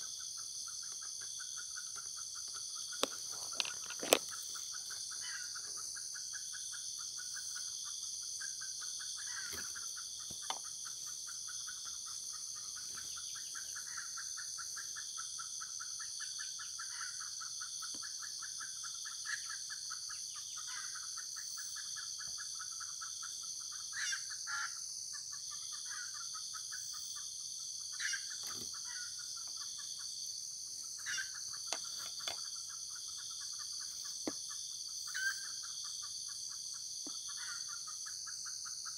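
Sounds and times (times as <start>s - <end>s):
high-pitched insect drone: 0.0s - 38.9s
rhythmic insect chirring: 0.0s - 38.9s.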